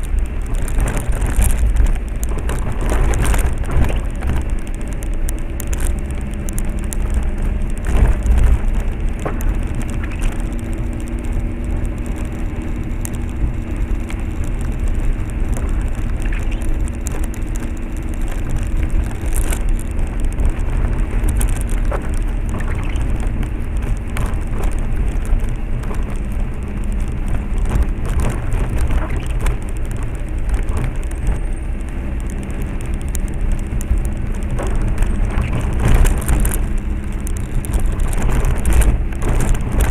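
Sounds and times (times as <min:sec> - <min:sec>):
car engine and road rumble: 0:00.0 - 0:39.9
knocks and clicks over bumps: 0:00.0 - 0:39.9
tyre noise on wet road: 0:00.0 - 0:39.9.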